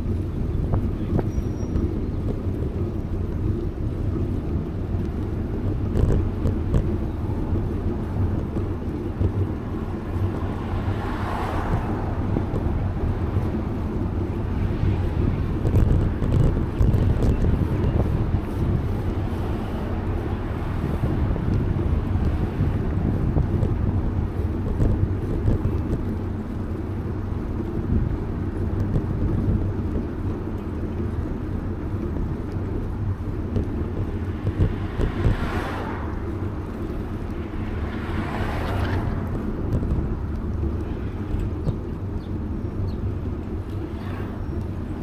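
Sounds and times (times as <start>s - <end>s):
traffic noise: 0.0s - 45.0s
vehicles passing: 0.0s - 45.0s
wind rumbling on microphone: 0.0s - 45.0s.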